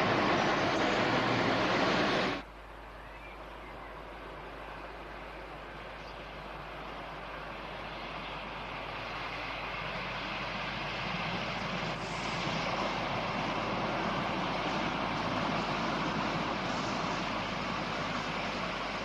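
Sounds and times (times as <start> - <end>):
diesel train running past: 0.0 - 19.0.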